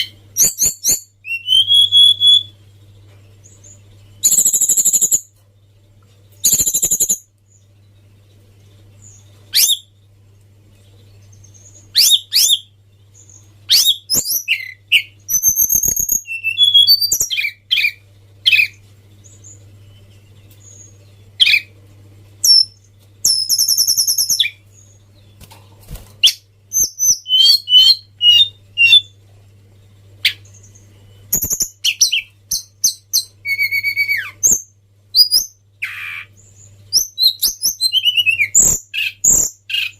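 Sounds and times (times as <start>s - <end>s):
faint low hum: 0.0s - 39.9s
songbird chirping and trilling: 0.0s - 39.9s.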